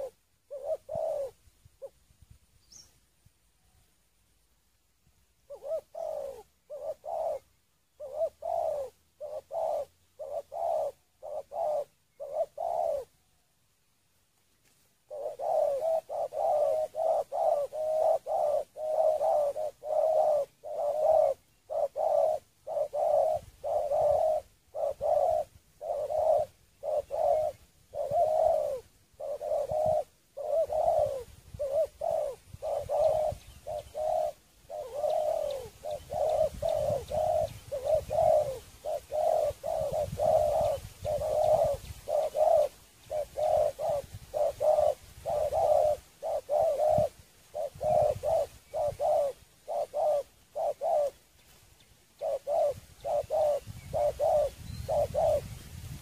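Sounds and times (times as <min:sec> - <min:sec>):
doves cooing: 0:00.0 - 0:02.0, 0:05.4 - 0:13.5, 0:15.0 - 0:56.0.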